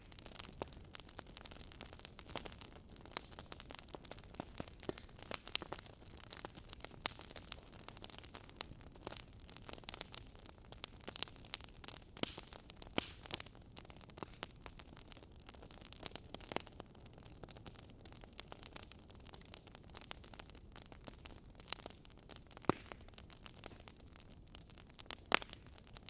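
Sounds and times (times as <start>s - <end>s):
faint fire hiss: 0.0s - 26.0s
wood fire popping and snapping: 0.0s - 26.0s.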